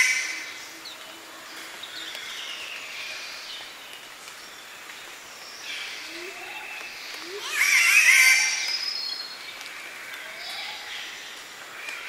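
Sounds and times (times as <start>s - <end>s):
forest hiss: 0.0s - 12.0s.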